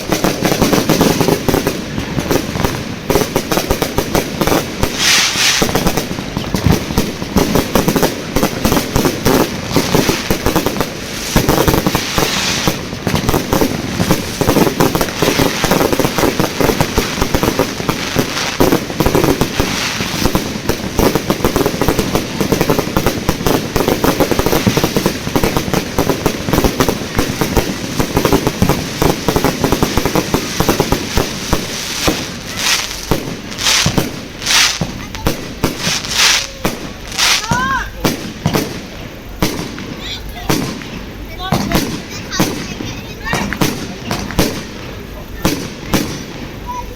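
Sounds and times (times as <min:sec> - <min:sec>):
fireworks bangs and crackling: 0:00.0 - 0:46.9
sharp single firework bangs: 0:00.0 - 0:46.9.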